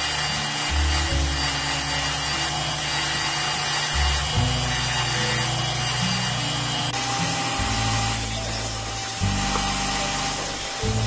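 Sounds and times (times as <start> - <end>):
background music: 0.0 - 11.0
belt grinder grinding steel: 0.0 - 11.0.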